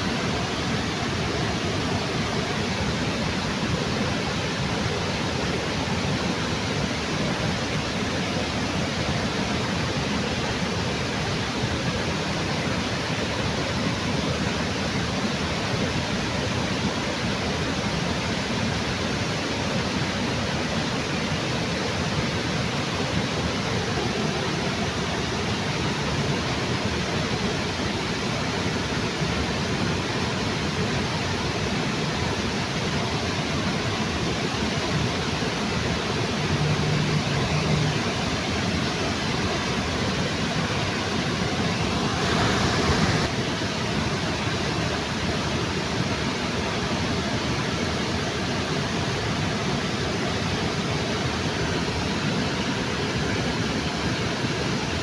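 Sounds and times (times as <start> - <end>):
water rushing over waterfall: 0.0 - 55.0.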